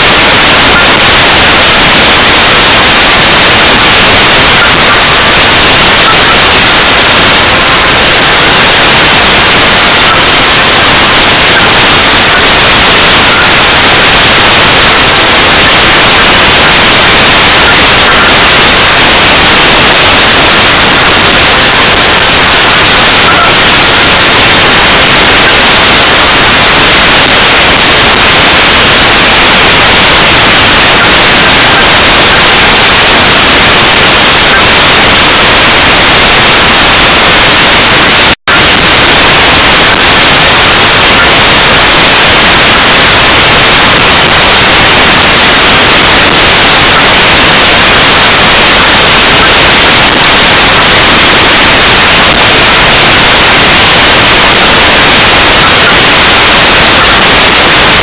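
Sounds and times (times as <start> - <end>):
loud static hiss: 0.0 - 58.0.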